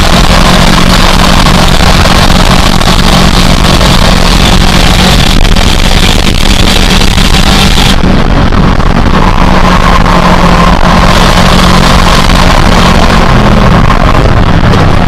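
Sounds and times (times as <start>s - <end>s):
race car engine at high pitch: 0.0s - 15.0s
wind and road noise: 0.0s - 15.0s.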